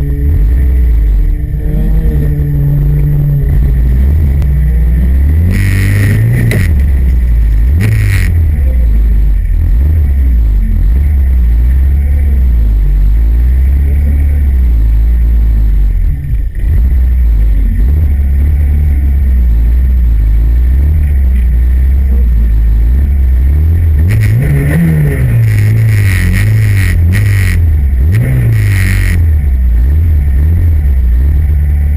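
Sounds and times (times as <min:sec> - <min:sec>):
car engine idling loudly: 0:00.0 - 0:31.9
engine revving: 0:00.0 - 0:31.9.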